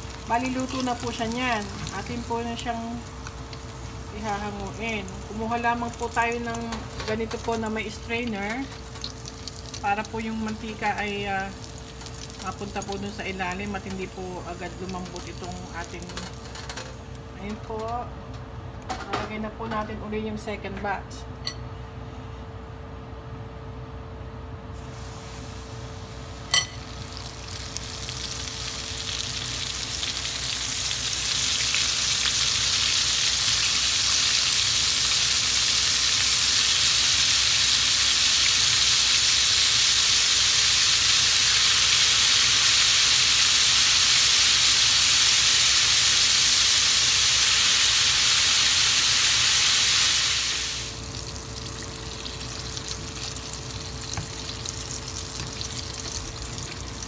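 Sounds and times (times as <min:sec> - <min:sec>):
deep-frying sizzle in hot oil: 0:00.0 - 0:17.9, 0:24.7 - 0:57.0.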